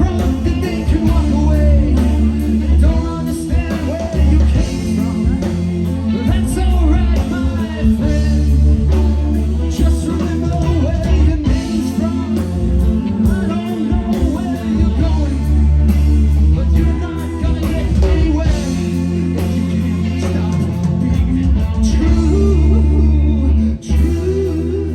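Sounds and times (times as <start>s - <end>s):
rock band playing live: 0.0s - 24.9s
wavering lead guitar line: 0.0s - 24.9s.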